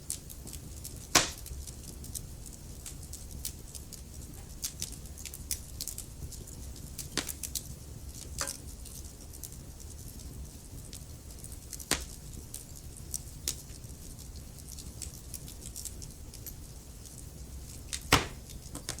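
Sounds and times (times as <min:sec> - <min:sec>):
fire crackling and popping: 0:00.0 - 0:19.0
wood fire rumbling: 0:00.0 - 0:19.0.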